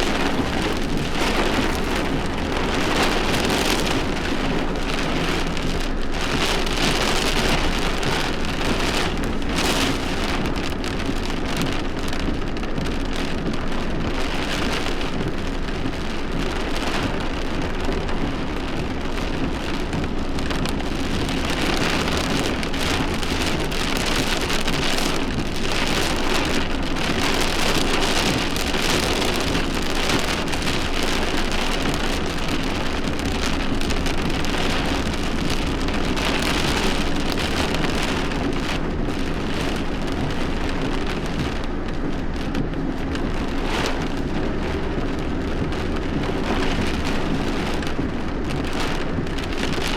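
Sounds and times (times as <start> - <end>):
steady heavy rain: 0.0 - 49.9.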